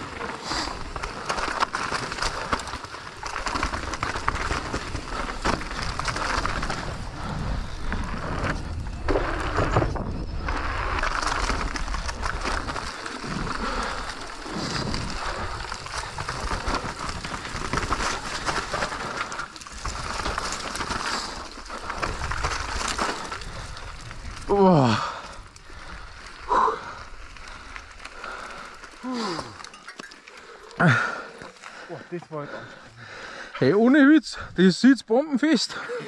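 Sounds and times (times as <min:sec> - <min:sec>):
constant rushing noise: 0:00.0 - 0:29.8
bike rattling over bumps: 0:00.0 - 0:33.5
tyres rolling over dirt and stones: 0:00.0 - 0:33.9.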